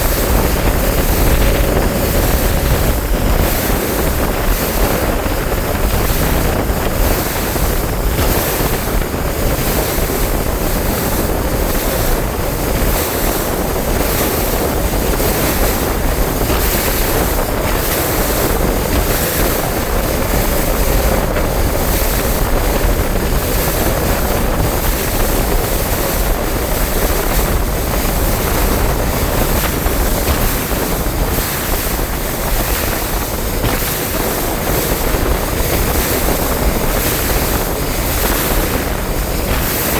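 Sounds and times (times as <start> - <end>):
boat engine: 0.0 - 39.9
water against boat hull: 0.0 - 39.9
wind buffeting microphone: 0.0 - 39.9.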